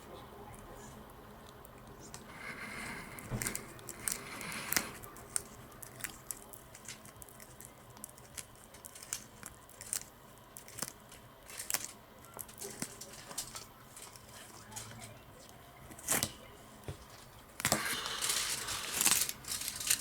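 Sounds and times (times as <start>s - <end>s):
tortoise crunching leaves: 2.3s - 16.4s, 17.0s - 20.0s.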